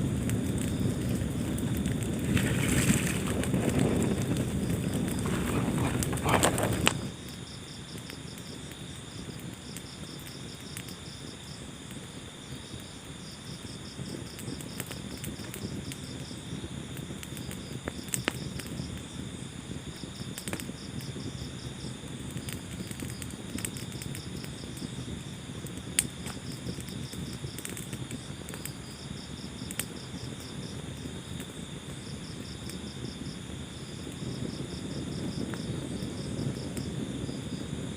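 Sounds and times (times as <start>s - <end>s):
crickets chirping: 0.0s - 37.9s
wood fire crackling: 0.0s - 37.9s.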